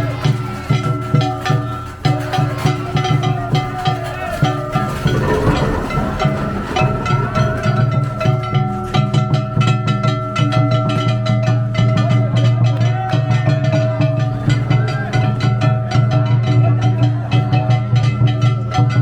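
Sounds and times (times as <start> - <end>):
festival drums and percussion: 0.0 - 19.0.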